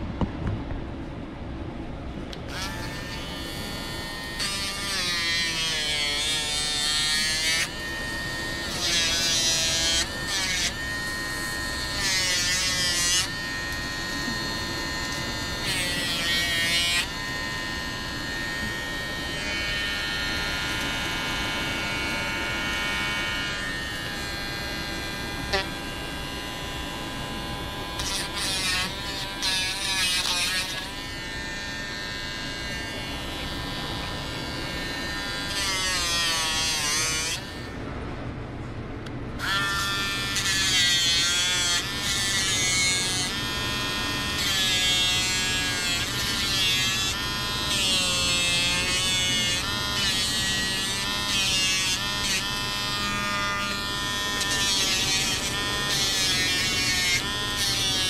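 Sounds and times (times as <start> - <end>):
rotary nail grinder running: 2.5 - 37.8, 39.4 - 58.0.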